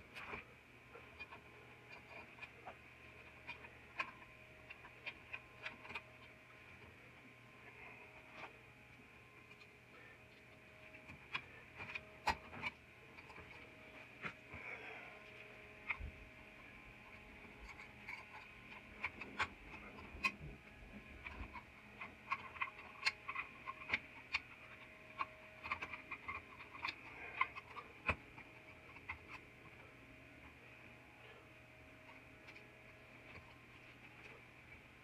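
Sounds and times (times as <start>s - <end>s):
faint high hum: 0.0s - 35.0s.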